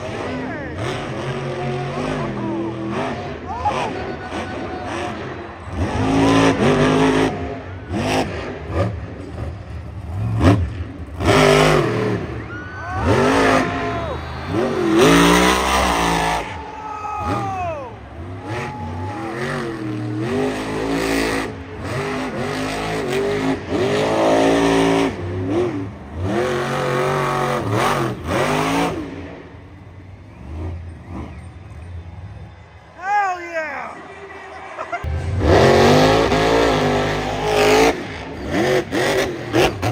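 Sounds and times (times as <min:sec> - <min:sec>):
monster truck engine revving: 0:00.0 - 0:33.0, 0:34.5 - 0:39.9.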